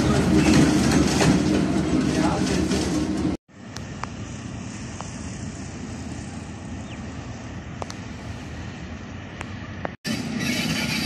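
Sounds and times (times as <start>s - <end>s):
diesel locomotives droning: 0.0s - 11.0s.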